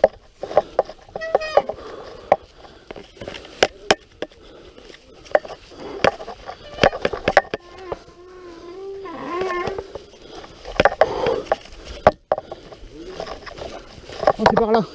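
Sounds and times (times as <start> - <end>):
mountain bike rattling on trail: 0.0 - 14.9.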